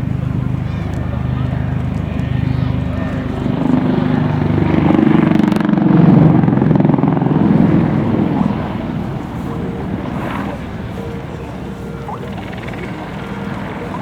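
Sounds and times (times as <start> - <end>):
helicopter rotor chop: 0.0 - 14.0
helicopter turbine engines: 0.0 - 14.0.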